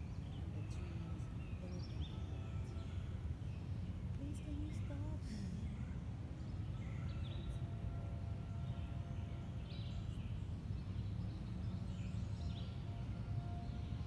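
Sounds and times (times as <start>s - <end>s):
birds chirping: 0.0s - 14.0s
low background rumble: 0.0s - 14.0s.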